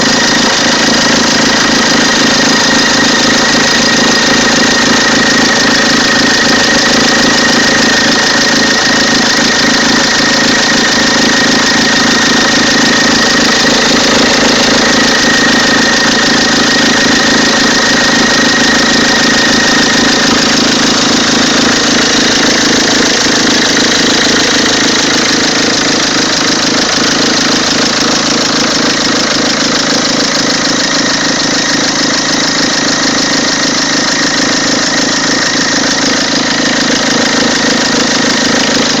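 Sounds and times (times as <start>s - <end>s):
diesel engine running: 0.0s - 39.0s
high engine whine: 0.0s - 39.0s.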